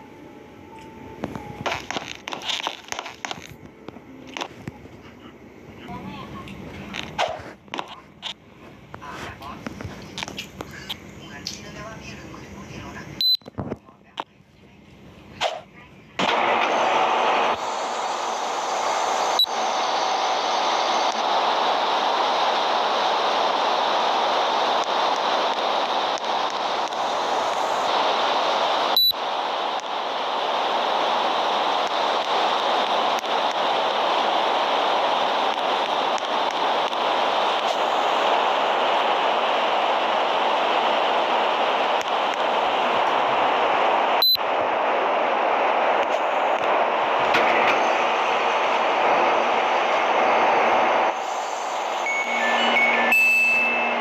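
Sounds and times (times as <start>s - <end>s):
air conditioner blowing: 0.0s - 54.0s.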